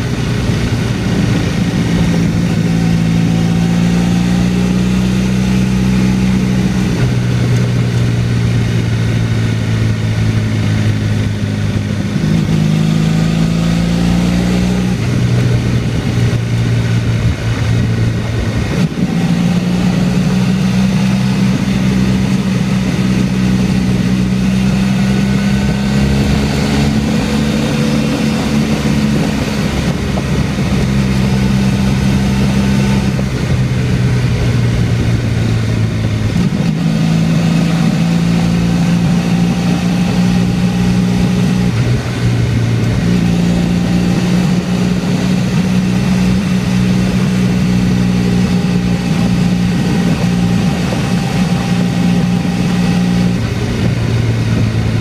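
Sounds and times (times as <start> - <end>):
motorcycle engine cruising: 0.0 - 55.0
steady rush of noise: 0.0 - 55.0.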